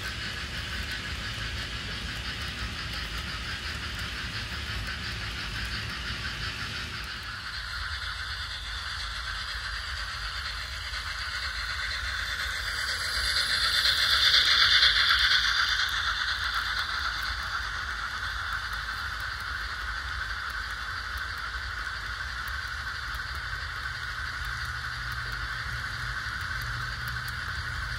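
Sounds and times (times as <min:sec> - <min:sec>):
model train wheels rattling: 0:00.0 - 0:27.9.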